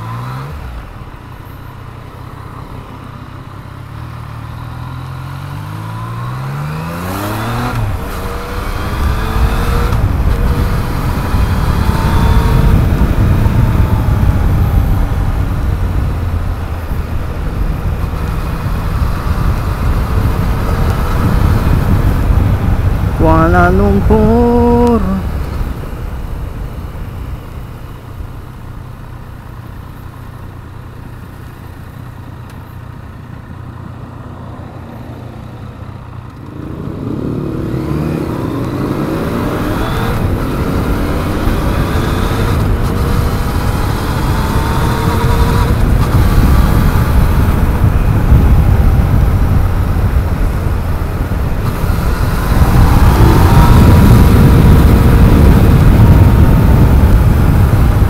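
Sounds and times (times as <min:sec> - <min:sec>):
motorcycle engine accelerating: 0:03.6 - 0:58.0.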